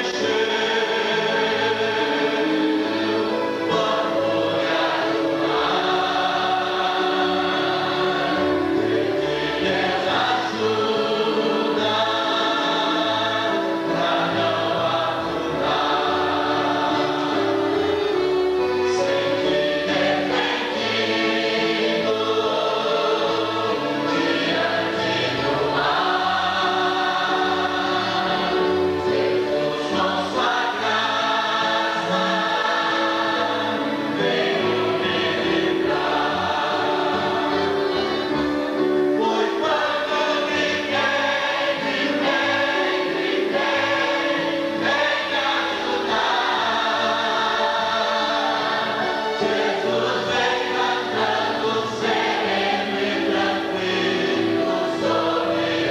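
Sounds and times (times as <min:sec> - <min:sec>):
congregation singing a hymn: 0:00.0 - 0:55.9.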